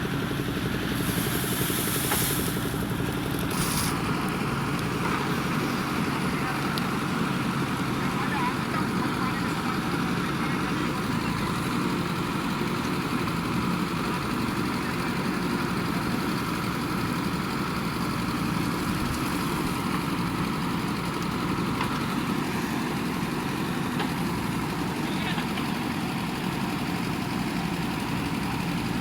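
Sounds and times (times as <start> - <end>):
diesel engine running steadily: 0.0 - 29.0.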